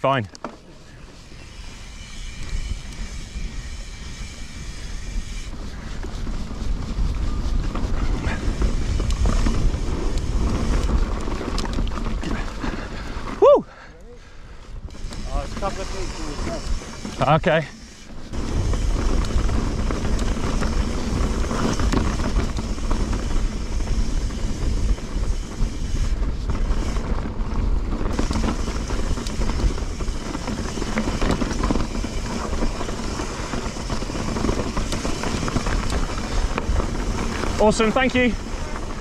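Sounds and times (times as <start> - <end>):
bike tyres on dirt trail: 0.0 - 39.0
bike clattering: 0.4 - 13.4, 14.8 - 39.0
wind buffeting microphone: 0.6 - 13.5, 14.2 - 39.0.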